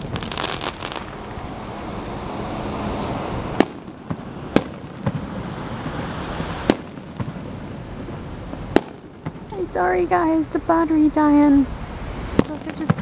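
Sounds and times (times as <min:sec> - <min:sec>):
fireworks bangs: 0:00.0 - 0:13.0
fireworks hissing crackle: 0:00.0 - 0:13.0.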